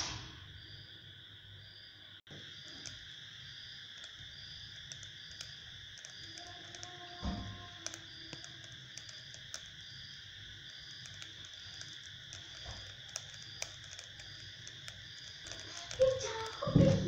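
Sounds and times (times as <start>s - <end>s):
insect chirp: 0.0s - 17.0s
insects trilling: 0.0s - 17.0s
faint clicks: 2.4s - 17.0s.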